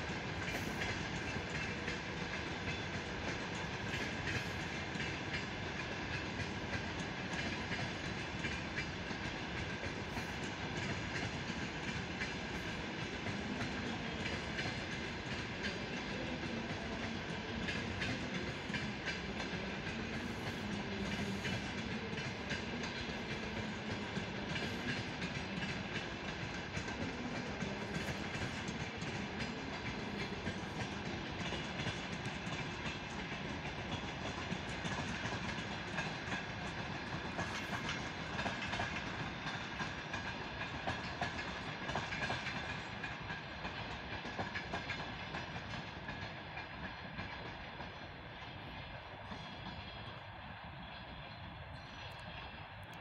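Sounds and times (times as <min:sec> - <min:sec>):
clickety-clack over rail joints: 0:00.0 - 0:53.0
train wheels rumbling on rails: 0:00.0 - 0:53.0.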